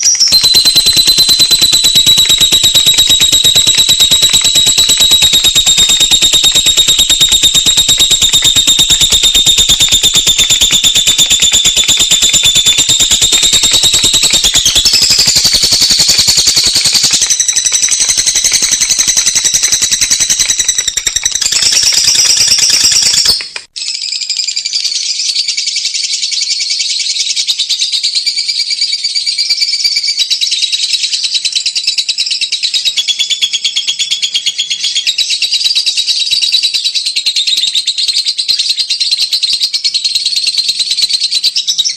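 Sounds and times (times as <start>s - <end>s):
lovebird chattering trill: 0.0s - 41.9s.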